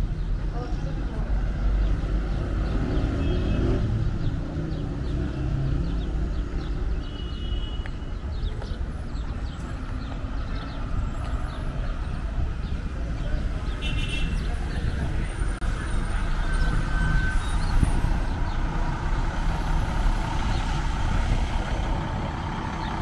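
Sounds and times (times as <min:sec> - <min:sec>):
vehicle engine: 0:00.0 - 0:07.2, 0:08.2 - 0:23.0
traffic rumble: 0:00.0 - 0:23.0.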